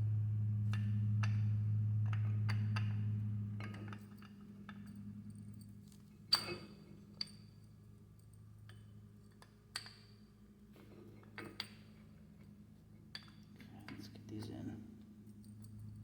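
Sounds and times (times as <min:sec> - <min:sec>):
low hum: 0:00.0 - 0:09.2, 0:10.8 - 0:16.0.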